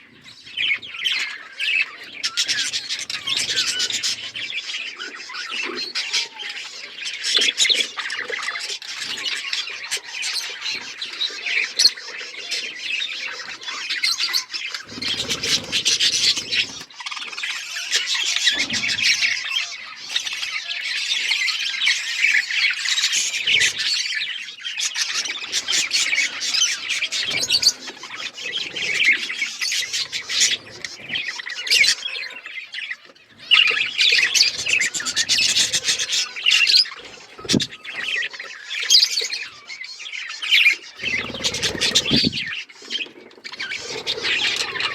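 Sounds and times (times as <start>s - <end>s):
budgerigars chirping and squawking: 0.0s - 44.9s.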